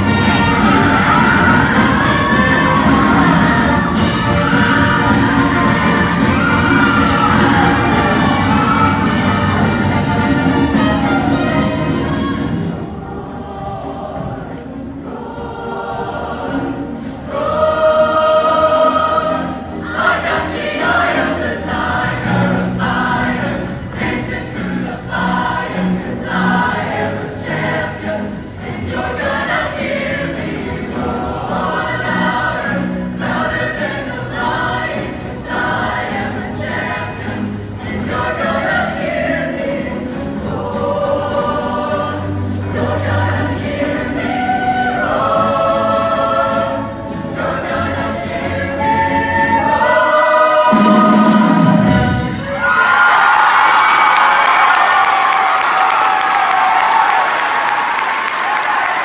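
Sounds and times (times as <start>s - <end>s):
band accompaniment: 0.0s - 59.0s
choir singing in harmony: 0.0s - 59.0s.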